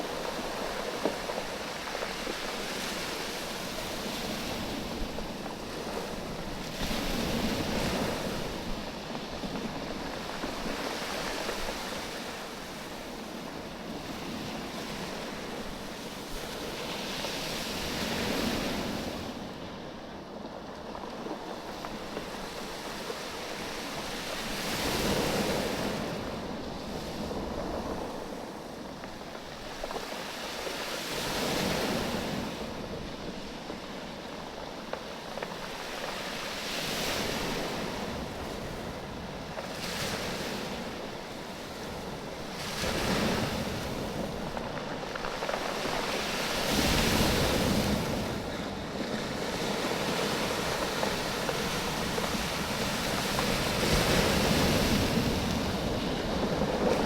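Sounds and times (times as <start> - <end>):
waves washing over stone beach: 0.0 - 19.9, 20.9 - 57.0.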